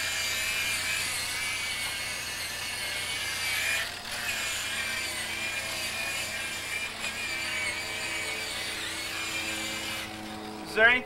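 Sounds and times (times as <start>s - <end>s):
electric polisher whining: 0.0s - 11.0s.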